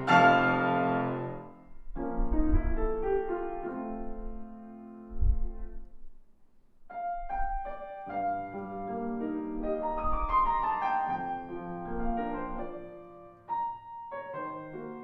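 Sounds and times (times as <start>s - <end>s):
grand piano classical piece: 0.0s - 15.0s.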